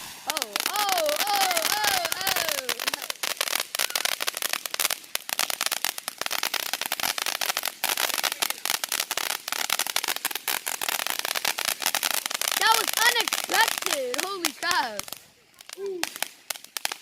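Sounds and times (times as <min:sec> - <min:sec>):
fireworks crackling pops: 0:00.0 - 0:17.0.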